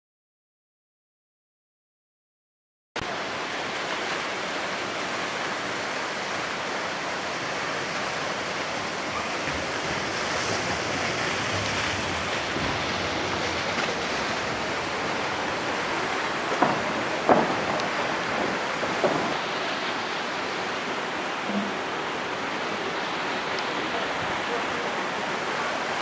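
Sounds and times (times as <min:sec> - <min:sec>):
waterfall roaring: 0:03.0 - 0:26.0.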